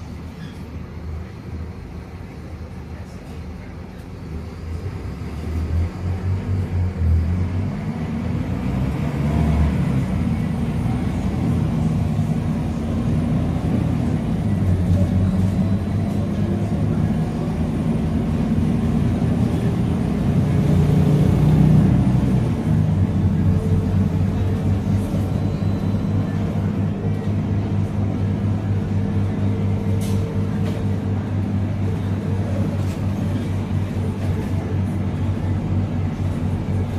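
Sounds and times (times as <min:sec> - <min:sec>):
bus diesel engine drone: 0:00.0 - 0:36.9.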